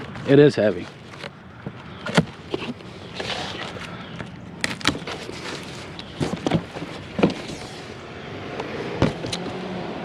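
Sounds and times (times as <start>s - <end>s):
steady outdoor hiss: 0.0s - 10.0s.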